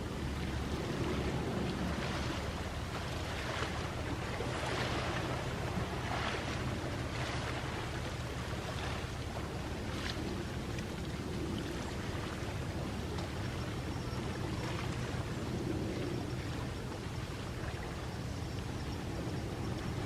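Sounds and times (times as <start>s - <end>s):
low steady rumble: 0.0s - 20.0s
small sea waves washing in: 0.0s - 20.0s.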